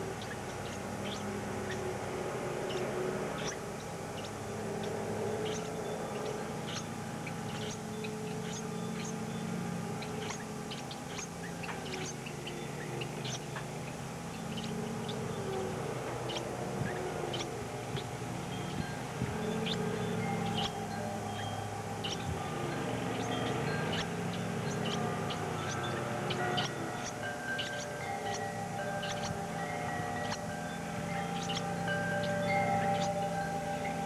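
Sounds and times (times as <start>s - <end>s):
small birds chirping: 0.0s - 34.0s
steady low hum: 0.0s - 34.0s.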